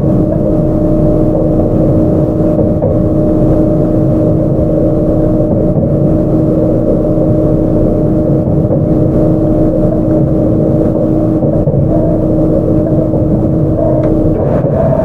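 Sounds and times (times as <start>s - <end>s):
constant humming tones: 0.0s - 15.0s
train running rumble: 0.0s - 15.0s.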